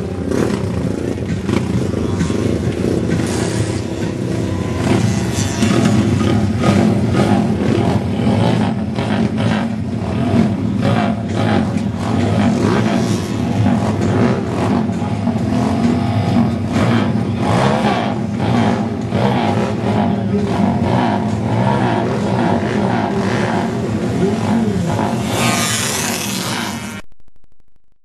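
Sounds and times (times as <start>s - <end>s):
vehicle engines revving: 0.0s - 27.0s.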